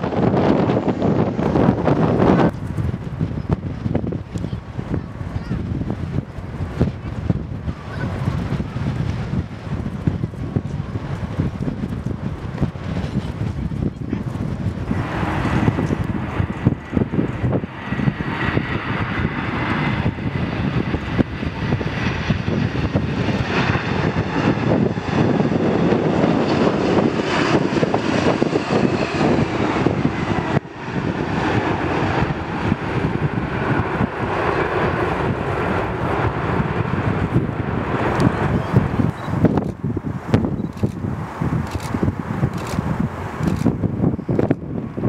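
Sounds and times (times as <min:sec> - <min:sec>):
high jet whine falling in pitch: 0:00.0 - 0:45.0
jet engine roar: 0:00.0 - 0:45.0.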